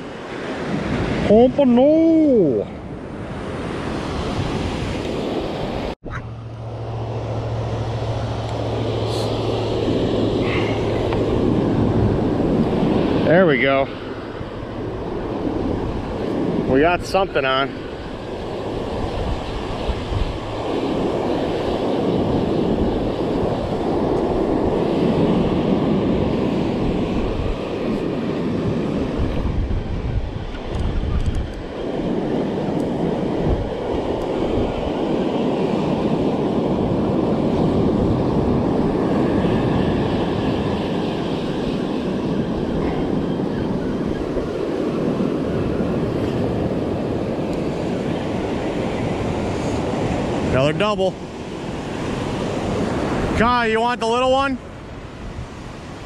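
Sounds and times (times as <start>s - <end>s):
wind buffeting microphone: 2.4s - 56.0s.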